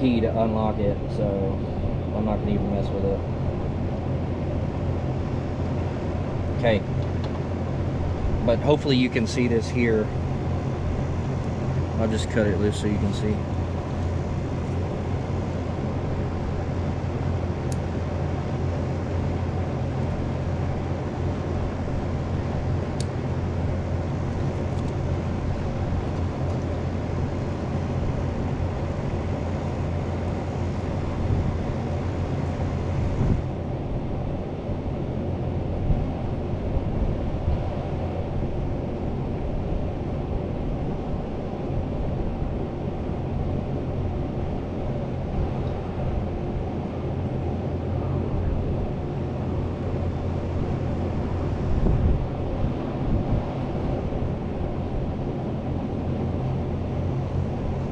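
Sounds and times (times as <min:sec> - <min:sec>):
air conditioner hum and hiss: 0:00.0 - 0:57.9.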